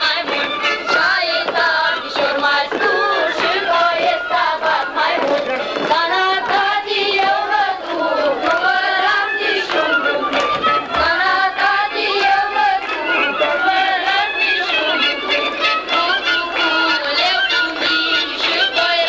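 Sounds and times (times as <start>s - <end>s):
children singing a folk song: 0.0s - 19.0s.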